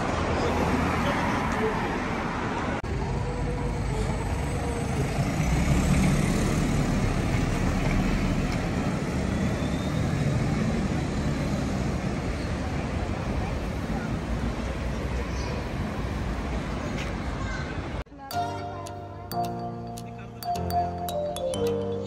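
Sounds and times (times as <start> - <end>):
traffic rumbling past: 0.0 - 21.9.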